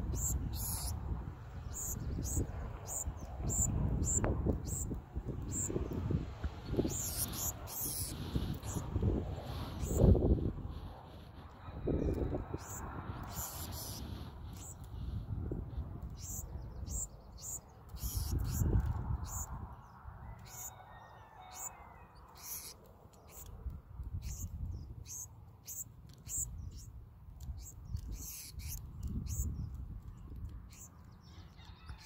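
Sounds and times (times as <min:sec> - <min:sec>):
sparrows chip notes: 0:00.0 - 0:01.0, 0:01.6 - 0:15.2, 0:15.8 - 0:19.5, 0:20.3 - 0:31.1.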